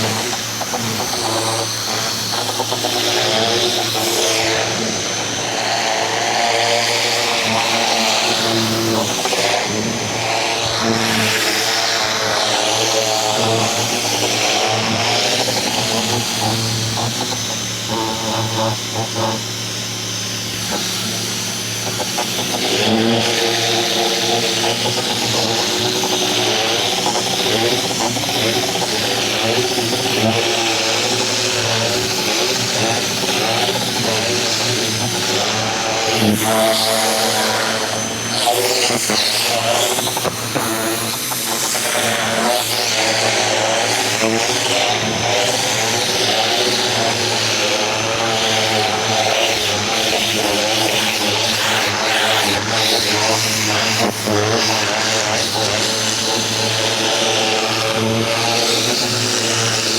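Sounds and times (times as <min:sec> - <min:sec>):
high-pressure water jet hissing: 0:00.0 - 0:59.9
pressure washer motor hum: 0:00.0 - 0:59.9.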